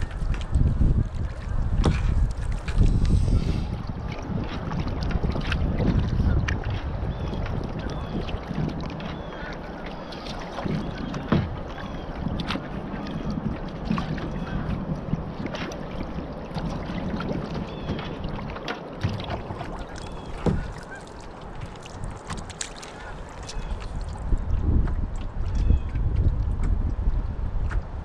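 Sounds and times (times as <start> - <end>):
paddle strokes splashing: 0.0 - 28.0
water sloshing along hull: 0.0 - 28.0.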